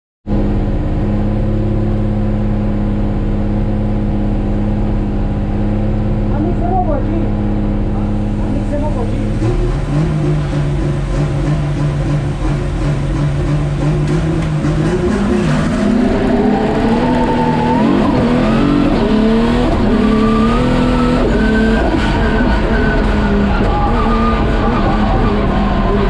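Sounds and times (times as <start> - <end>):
race car engine accelerating: 0.3 - 26.0.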